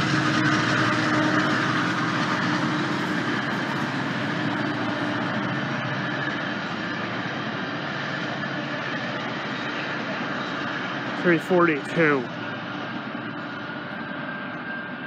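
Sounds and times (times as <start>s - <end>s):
train rumbling past: 0.0s - 14.1s.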